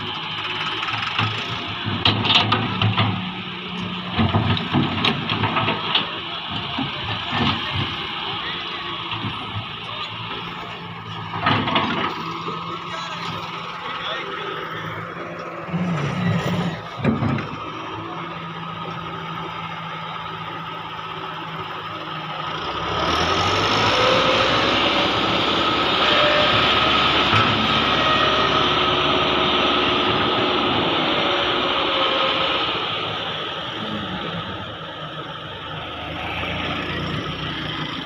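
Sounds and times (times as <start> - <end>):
excavator diesel engine: 0.0 - 38.0.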